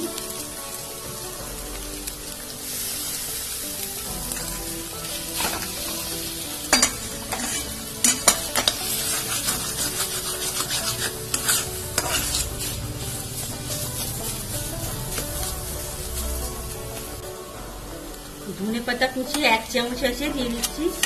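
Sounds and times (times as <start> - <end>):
metal spatula scraping a pan: 0.0 - 19.7
food sizzling in oil: 0.0 - 21.0.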